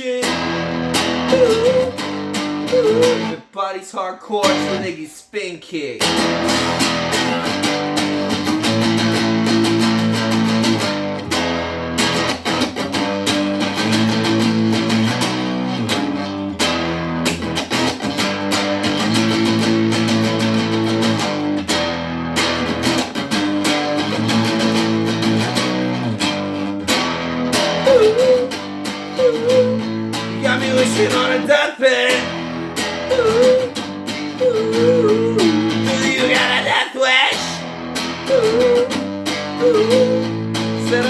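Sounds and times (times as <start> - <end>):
electric guitar strumming chords: 0.0 - 3.4, 6.0 - 36.7, 37.3 - 41.0.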